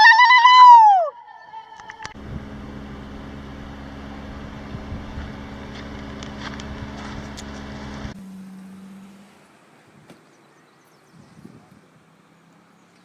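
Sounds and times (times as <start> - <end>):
engine-like hum: 1.8 - 13.0.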